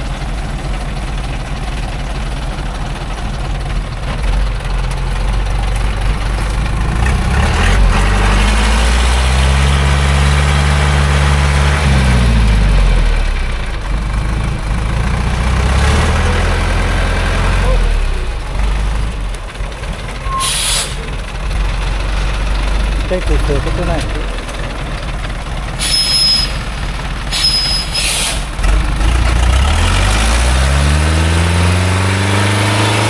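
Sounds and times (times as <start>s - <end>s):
truck engine idling and revving: 0.0s - 33.0s.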